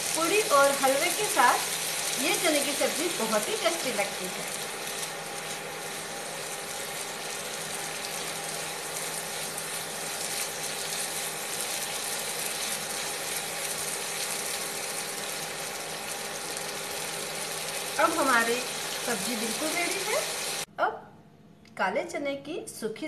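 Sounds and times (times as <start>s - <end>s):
food sizzling in a pan: 0.0s - 20.7s.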